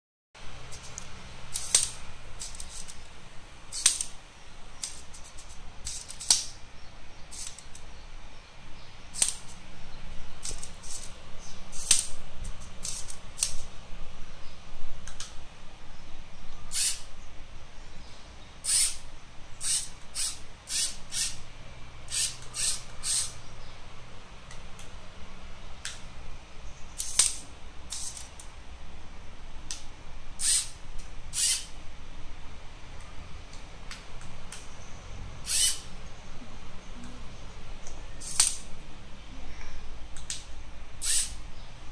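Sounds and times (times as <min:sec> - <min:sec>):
faint low motor hum: 0:00.4 - 0:41.9.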